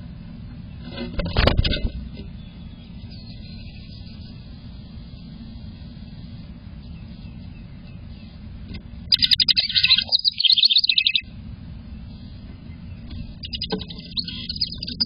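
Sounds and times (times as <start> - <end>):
low steady rumble: 0.0 - 15.0
wren singing: 2.2 - 6.2, 6.8 - 15.0.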